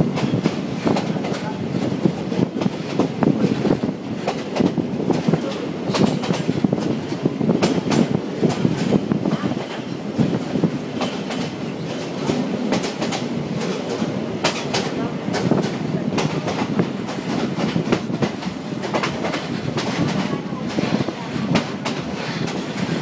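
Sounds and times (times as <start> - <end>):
rail clatter and carriage rattling: 0.0 - 23.0
train wheels rumbling on track: 0.0 - 23.0.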